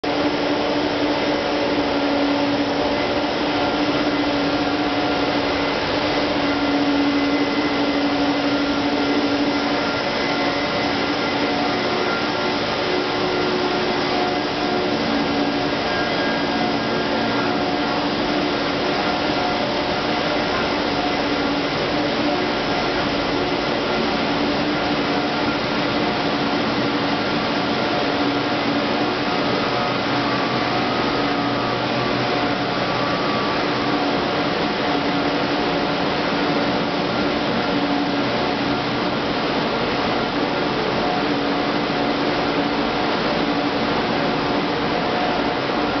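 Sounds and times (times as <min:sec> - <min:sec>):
machinery hum: 0:00.0 - 0:46.0
motors and pumps hissing: 0:00.0 - 0:46.0.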